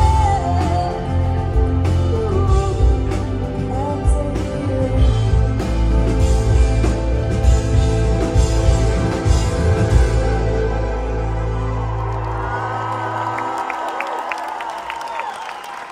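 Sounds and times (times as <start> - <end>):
heavy bass: 0.0 - 13.3
live rock band: 0.0 - 13.9.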